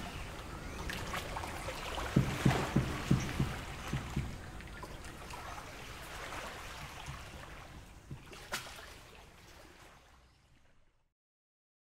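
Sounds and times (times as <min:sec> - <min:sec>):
lake waves lapping at shore: 0:00.0 - 0:10.7.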